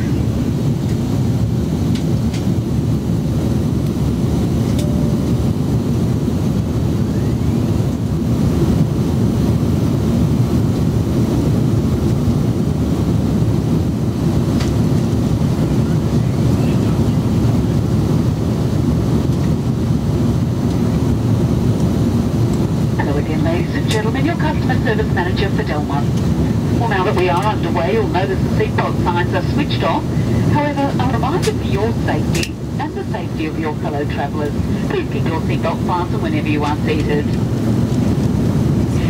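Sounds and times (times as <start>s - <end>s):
jet engine cabin rumble: 0.0s - 39.0s.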